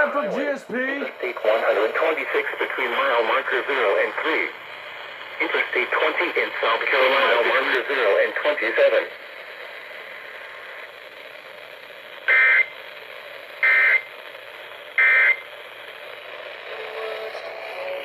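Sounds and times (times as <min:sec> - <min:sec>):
radio hiss: 0:00.0 - 0:18.0.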